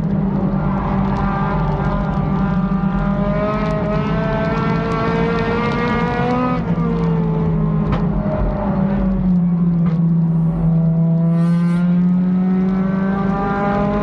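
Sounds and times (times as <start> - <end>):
race car engine: 0.0 - 14.0.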